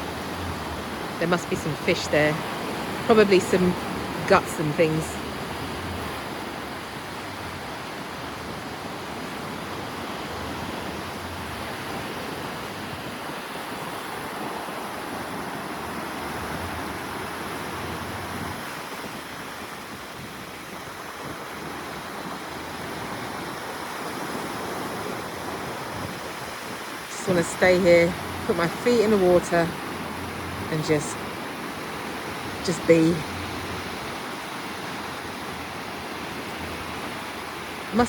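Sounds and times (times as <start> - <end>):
sea waves washing onto beach: 0.0 - 38.0.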